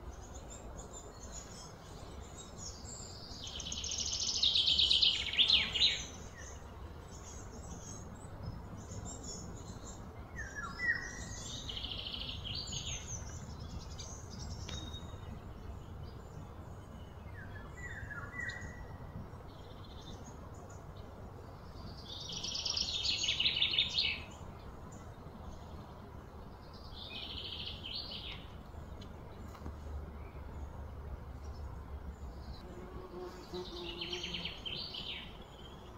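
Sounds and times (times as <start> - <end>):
low background noise: 0.0 - 35.9.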